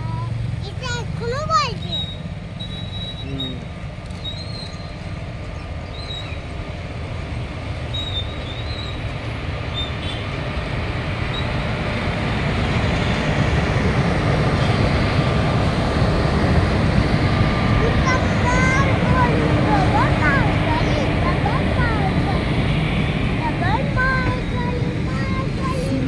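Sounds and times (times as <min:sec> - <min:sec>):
locomotives rolling past: 0:00.0 - 0:26.0.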